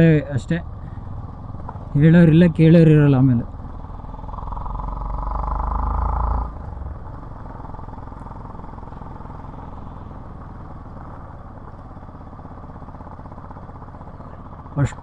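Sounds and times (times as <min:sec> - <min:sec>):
motorcycle engine on gravel: 0:00.8 - 0:15.0.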